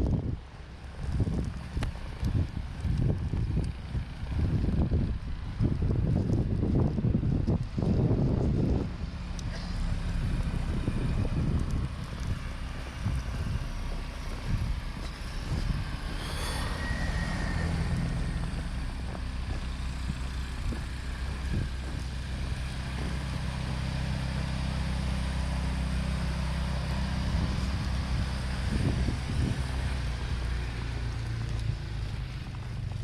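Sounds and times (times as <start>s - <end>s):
vehicle engine running: 0.0s - 33.0s
wind buffeting microphone: 0.0s - 33.0s.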